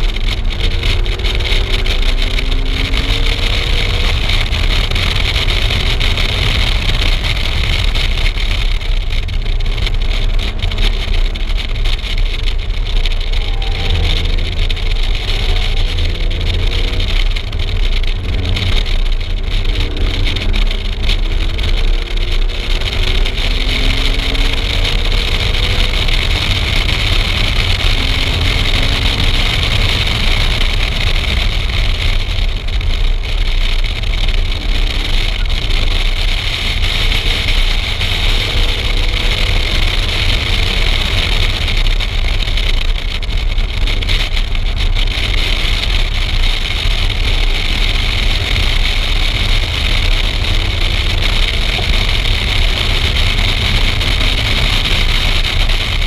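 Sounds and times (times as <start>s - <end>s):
car engine revving through gears: 0.0s - 56.0s
road rumble: 0.0s - 56.0s.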